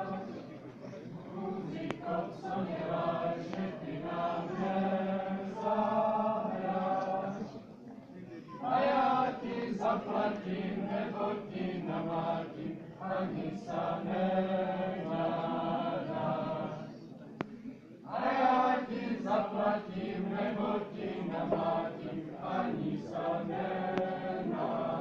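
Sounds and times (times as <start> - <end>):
group singing folk song: 0.0 - 7.7, 8.6 - 17.0, 18.1 - 25.0.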